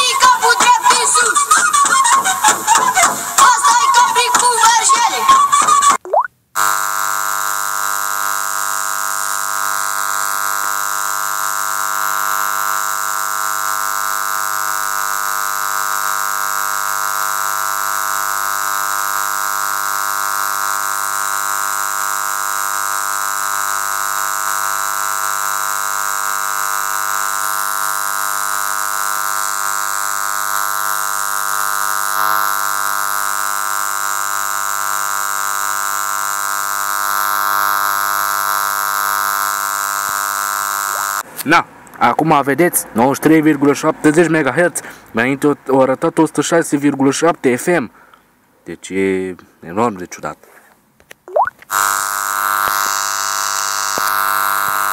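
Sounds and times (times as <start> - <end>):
steady radio buzz: 0.0 - 6.0, 6.6 - 41.6, 51.7 - 54.9.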